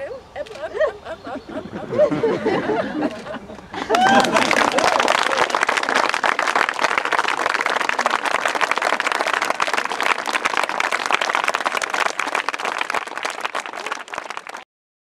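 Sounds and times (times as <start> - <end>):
crowd applauding: 1.4 - 14.7.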